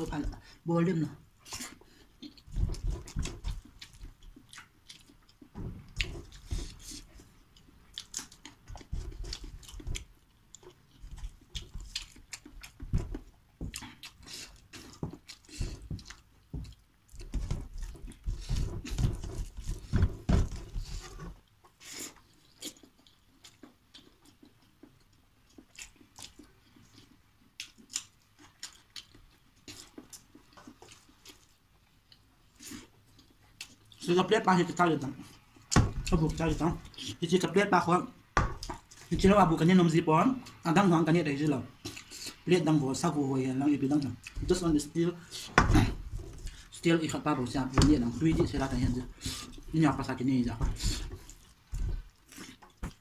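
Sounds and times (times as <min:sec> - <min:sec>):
man chewing food: 0:01.2 - 0:34.1, 0:35.1 - 0:37.2, 0:38.2 - 0:39.4, 0:40.4 - 0:40.6, 0:41.7 - 0:42.5, 0:43.8 - 0:46.9, 0:47.5 - 0:53.0.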